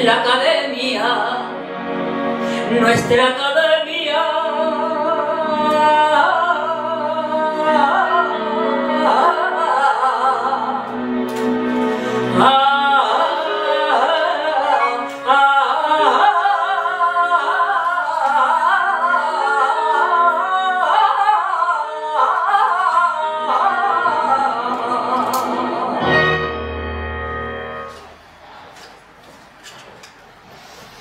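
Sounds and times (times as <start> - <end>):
woman singing with vibrato: 0.0 - 1.6, 2.6 - 26.4.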